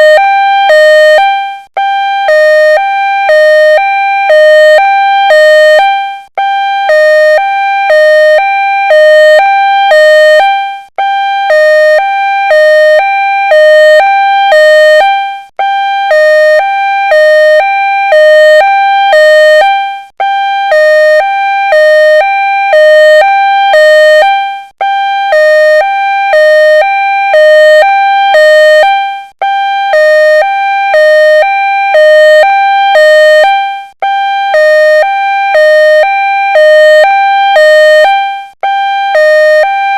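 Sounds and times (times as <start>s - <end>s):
two-tone ambulance siren: 0.0s - 39.9s.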